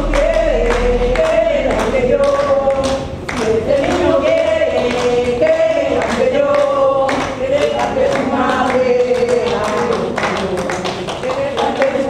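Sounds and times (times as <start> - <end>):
hand clapping: 0.0 - 12.0
women singing: 0.0 - 12.0.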